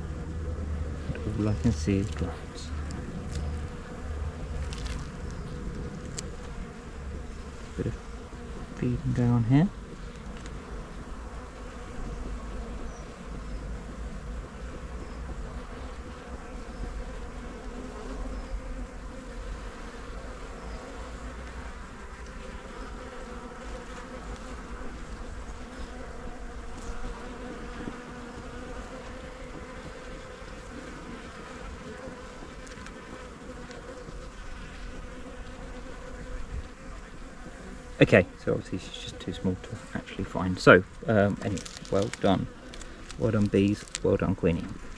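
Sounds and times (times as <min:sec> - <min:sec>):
honey bees buzzing: 0:00.0 - 0:44.9.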